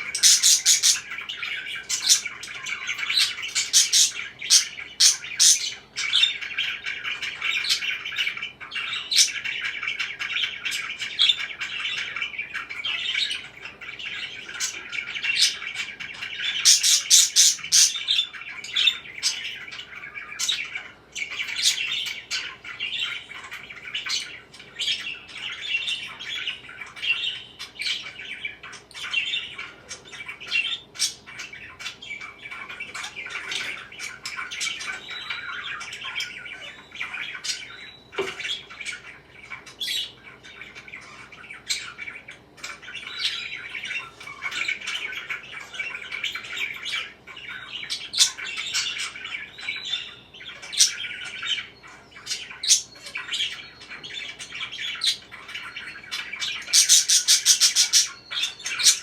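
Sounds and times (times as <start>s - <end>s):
parakeets chirping and chattering: 0.0s - 59.0s.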